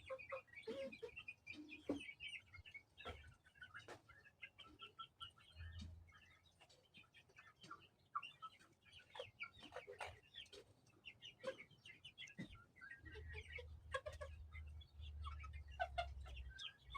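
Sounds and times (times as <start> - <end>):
chickens clucking softly: 0.0 - 16.9.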